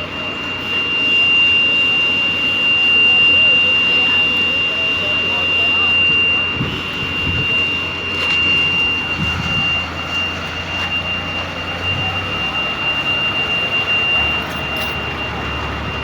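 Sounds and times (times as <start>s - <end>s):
heavy vehicle engines droning: 0.0s - 16.0s
thin high-pitched tone: 0.0s - 16.0s.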